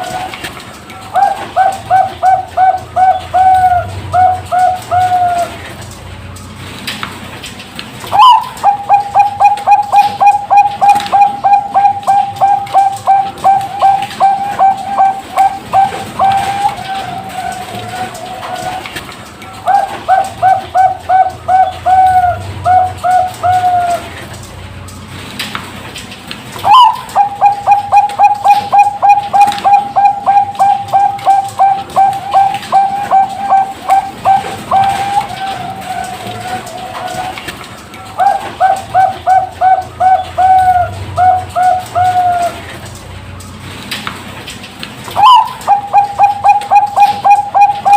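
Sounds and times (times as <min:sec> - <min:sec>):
dove cooing: 0:00.0 - 0:05.9, 0:08.0 - 0:24.4, 0:26.6 - 0:43.0, 0:45.1 - 0:47.9.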